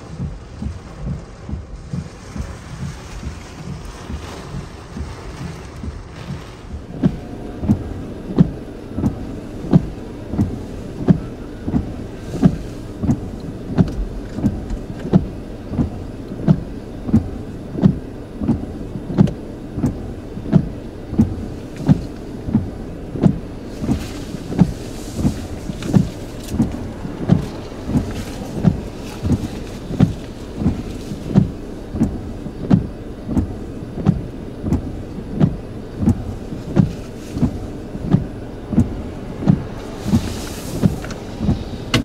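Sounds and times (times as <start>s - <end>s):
car hum: 0.0s - 42.0s
rain hiss: 0.0s - 42.0s
windshield wipers thumping: 0.0s - 42.0s.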